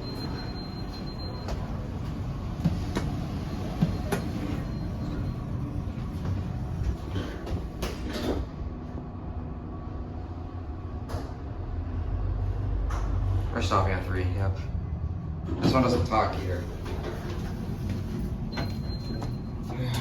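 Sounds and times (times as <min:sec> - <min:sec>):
elevator low rumble: 0:00.0 - 0:20.0.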